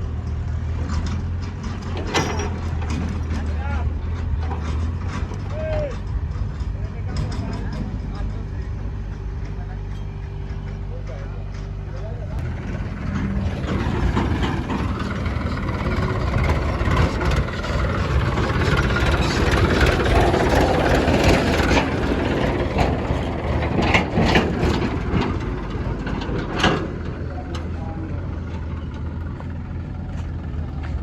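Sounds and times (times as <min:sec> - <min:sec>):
diesel engines running: 0:00.0 - 0:31.0
soil scraping and clatter: 0:00.0 - 0:31.0.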